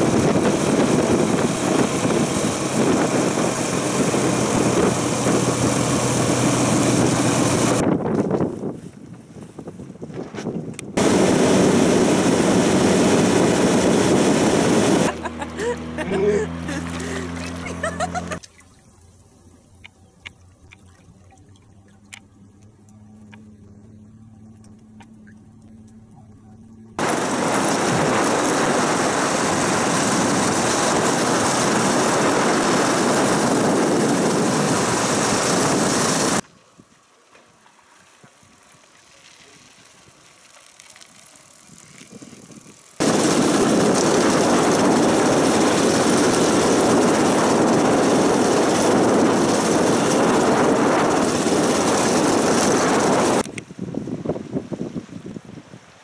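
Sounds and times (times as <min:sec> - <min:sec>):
wind rushing on microphone: 0:00.0 - 0:18.4, 0:24.6 - 0:36.9, 0:41.7 - 0:56.0.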